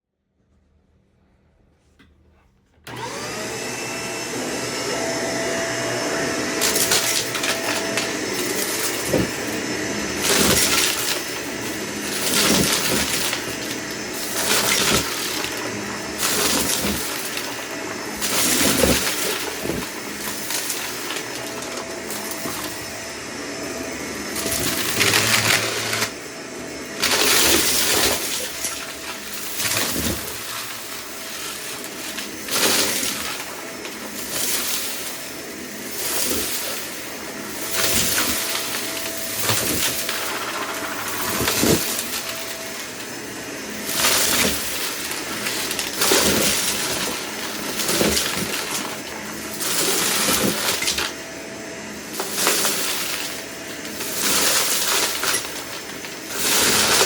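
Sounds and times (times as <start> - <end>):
vacuum cleaner motor running: 2.8 - 57.0.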